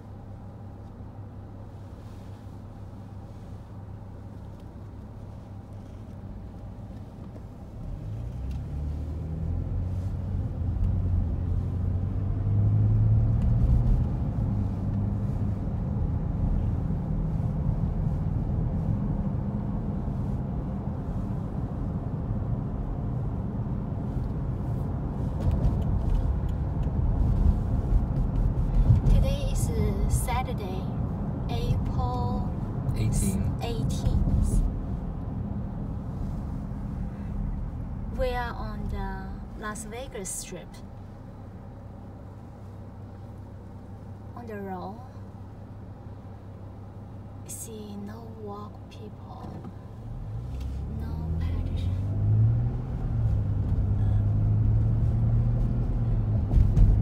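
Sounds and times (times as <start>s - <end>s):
tyre road noise: 0.0s - 57.0s
car engine accelerating: 5.7s - 47.4s, 49.0s - 57.0s.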